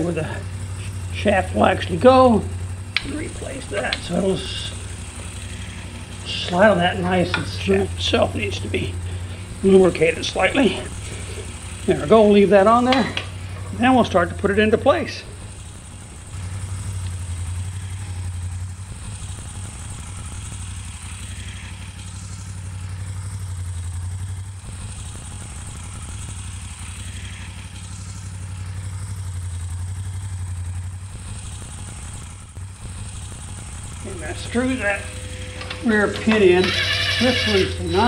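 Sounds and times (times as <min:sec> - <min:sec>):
low pulsing motor hum: 0:00.0 - 0:38.0.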